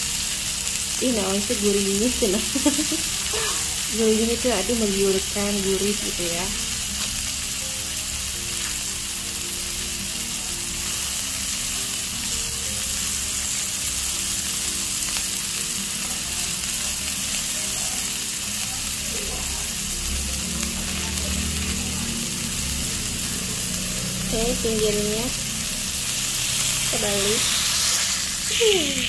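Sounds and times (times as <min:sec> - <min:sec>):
steak sizzling in hot fat: 0:00.0 - 0:29.0.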